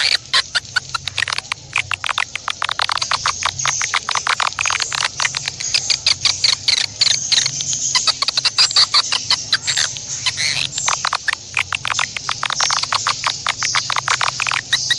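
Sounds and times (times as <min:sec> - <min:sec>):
animal clicking chirps: 0:00.0 - 0:14.9.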